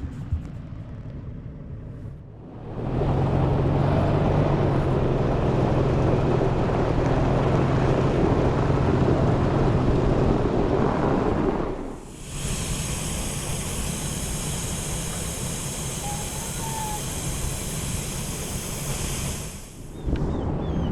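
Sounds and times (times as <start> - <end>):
road and wind noise: 0.0 - 20.9
vehicle engine hum: 0.0 - 20.9.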